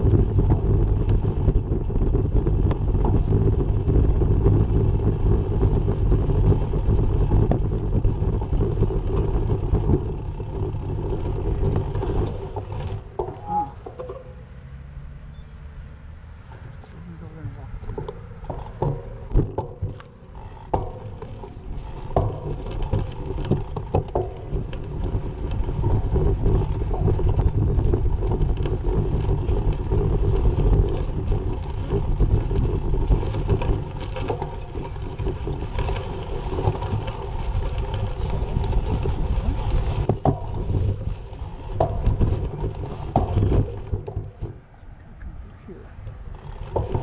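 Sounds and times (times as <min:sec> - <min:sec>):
bicycle knocks and rattles: 0:00.0 - 0:14.5, 0:17.6 - 0:47.0
wind rumbling on microphone: 0:00.0 - 0:47.0.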